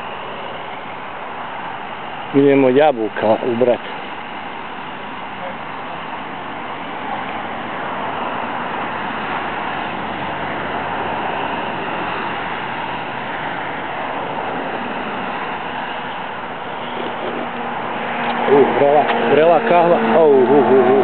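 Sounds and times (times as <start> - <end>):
motorway traffic passing: 0.0 - 21.0.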